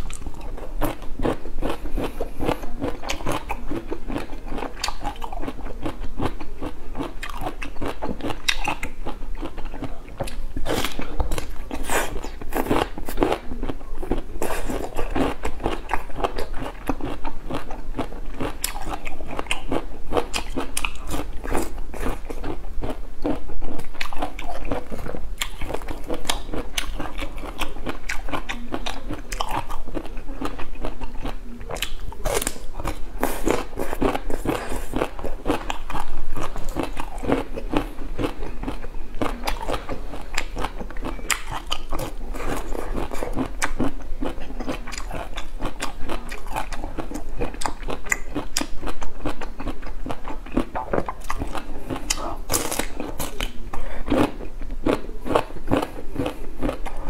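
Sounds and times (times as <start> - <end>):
person chewing crunchy bamboo: 0.0 - 57.0.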